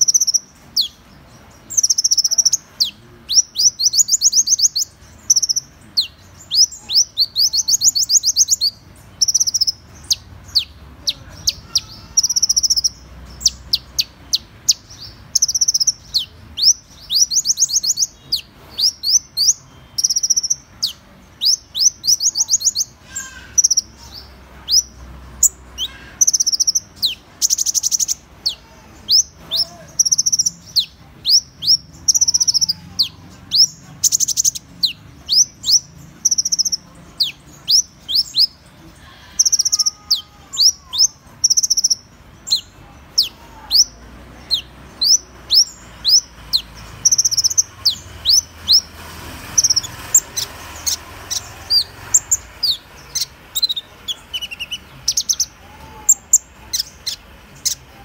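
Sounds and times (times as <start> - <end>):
sunbird chirps and trills: 0.0 - 58.0.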